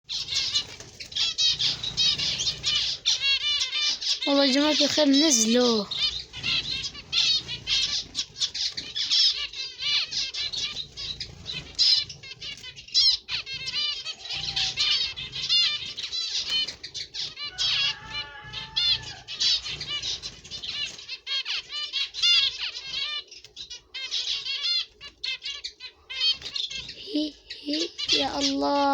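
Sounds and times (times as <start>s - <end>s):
small birds chirping: 0.0s - 28.9s
wings fluttering: 0.0s - 28.9s.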